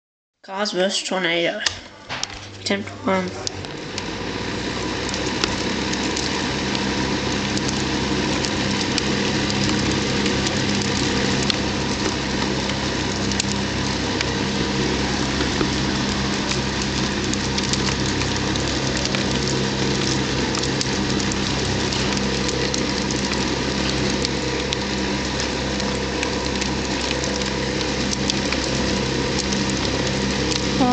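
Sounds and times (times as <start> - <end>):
electric fan motor hum: 1.6 - 30.9.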